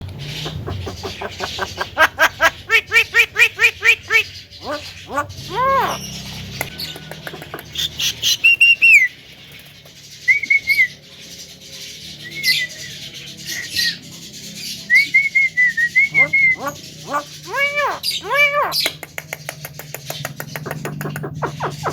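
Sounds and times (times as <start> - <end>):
bird calling: 0.0 - 11.0, 12.2 - 21.9.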